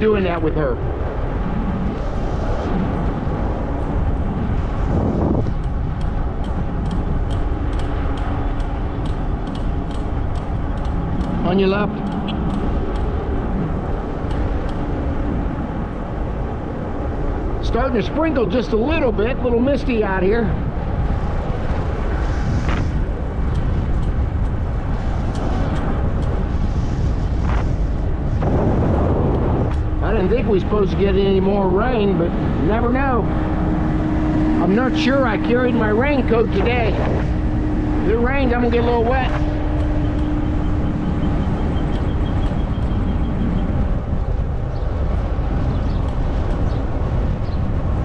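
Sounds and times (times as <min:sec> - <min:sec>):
e-bike rolling on trail: 0:00.0 - 0:48.0
wind on microphone: 0:00.0 - 0:48.0.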